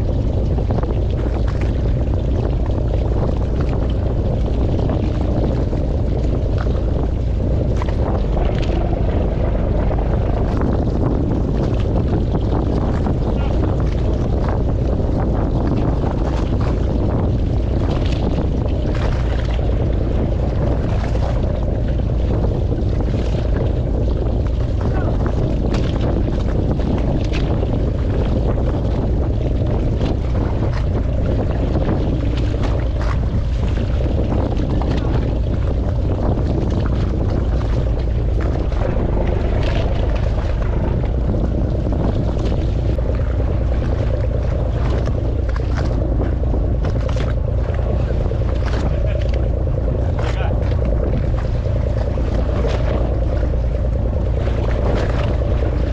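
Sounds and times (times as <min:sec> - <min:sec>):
water washing against boat hull: 0:00.0 - 0:55.9
wind rumbling on microphone: 0:00.0 - 0:55.9.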